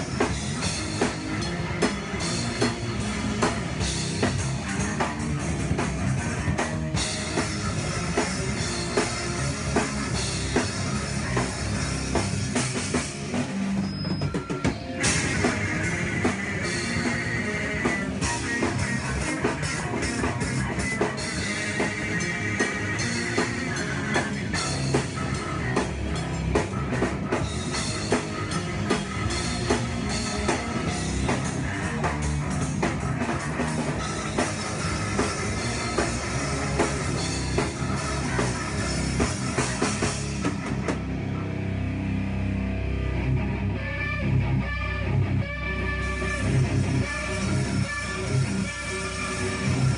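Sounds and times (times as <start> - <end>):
drums and cymbals: 0.0 - 41.4, 46.0 - 49.9
bass guitar: 0.0 - 49.9
electric guitar: 0.0 - 49.9.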